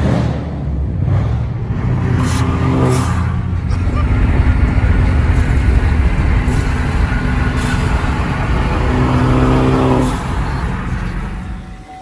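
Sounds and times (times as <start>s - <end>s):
low exhaust rumble: 1.0s - 12.0s
droning tone: 1.4s - 12.0s.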